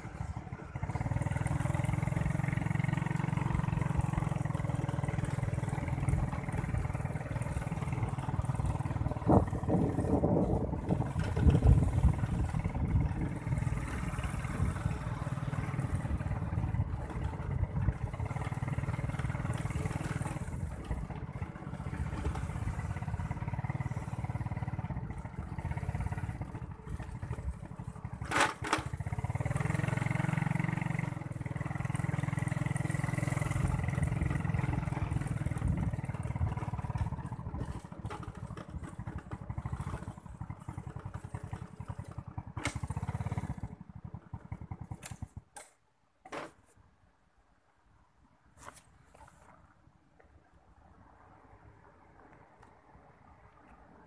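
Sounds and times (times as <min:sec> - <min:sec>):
small motorbike engine running: 0:00.0 - 0:45.8.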